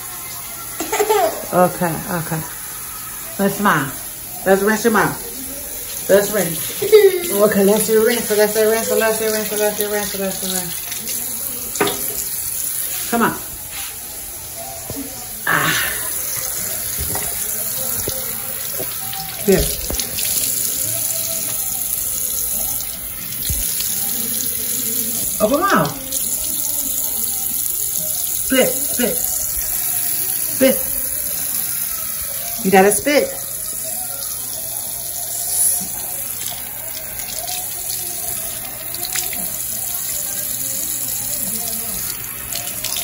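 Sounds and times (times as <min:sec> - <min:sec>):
water running from faucet: 0:00.0 - 0:43.0.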